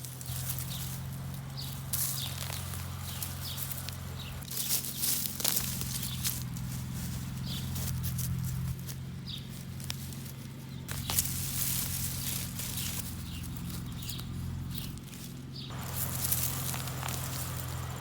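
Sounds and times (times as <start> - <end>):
scraping and rustling dirt: 0.0 - 18.0
steady low hum: 0.0 - 18.0.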